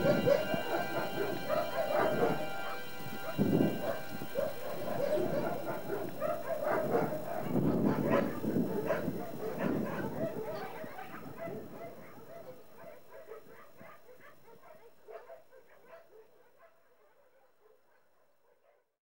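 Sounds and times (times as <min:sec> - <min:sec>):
many dogs barking and yelping: 0:00.0 - 0:18.9.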